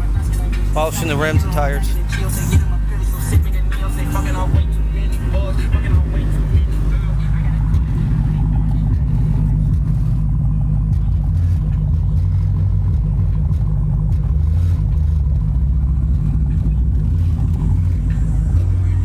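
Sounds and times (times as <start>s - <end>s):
bass-heavy music on car stereo: 0.0s - 19.0s.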